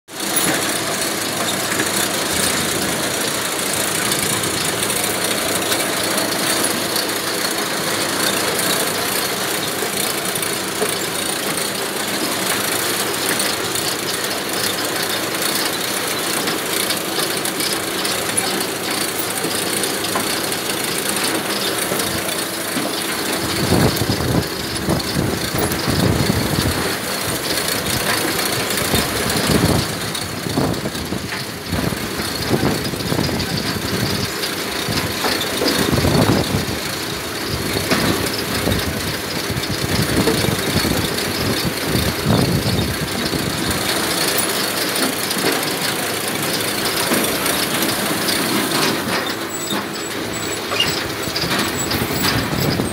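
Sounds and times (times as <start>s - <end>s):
harvester engine and machinery: 0.1s - 52.9s
roots rattling over metal grates: 0.1s - 52.9s.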